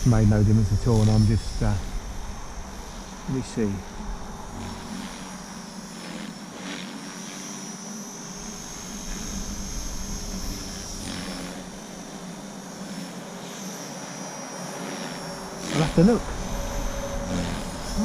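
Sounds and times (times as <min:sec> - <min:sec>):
rc helicopter motor whine: 0:00.0 - 0:18.0
rotor buzz: 0:00.0 - 0:18.0.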